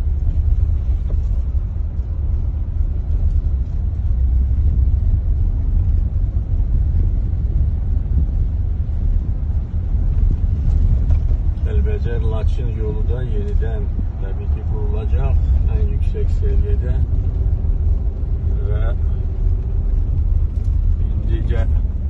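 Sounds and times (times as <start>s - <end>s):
car driving on gravel: 0.0s - 22.0s.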